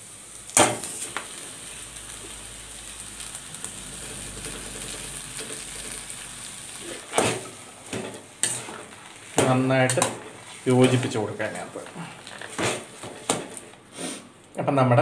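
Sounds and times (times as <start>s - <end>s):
frying sizzle in a pan: 0.0s - 14.3s.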